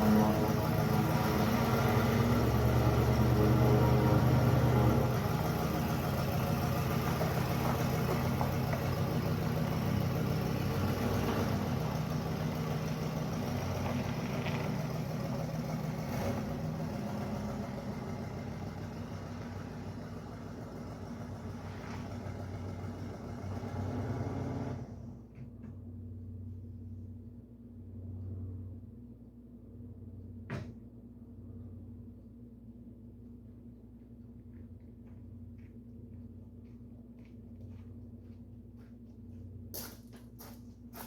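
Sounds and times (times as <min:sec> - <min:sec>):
vehicle engine running: 0:00.0 - 0:26.6, 0:32.9 - 0:41.0.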